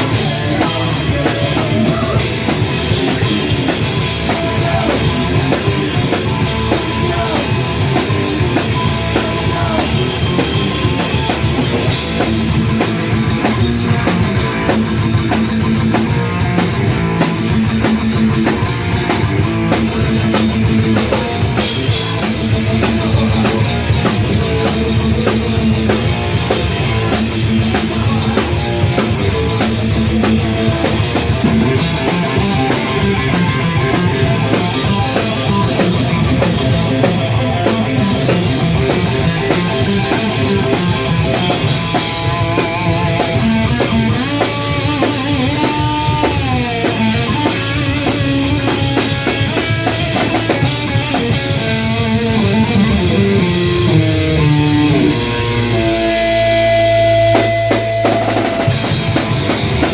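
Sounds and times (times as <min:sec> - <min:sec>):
bass guitar: 0:00.0 - 0:59.9
drum kit beat with cymbals: 0:00.0 - 0:59.9
electric guitar: 0:00.0 - 0:59.9
punk rock band playing: 0:00.0 - 0:59.9.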